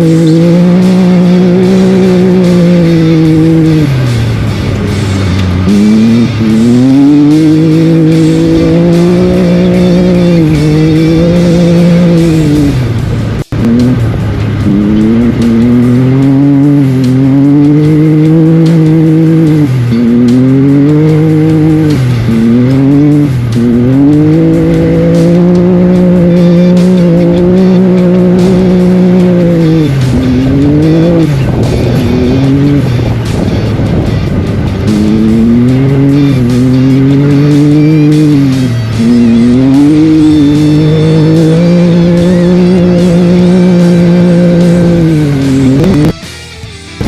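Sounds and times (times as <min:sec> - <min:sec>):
race vehicle engine accelerating: 0:00.0 - 0:47.0.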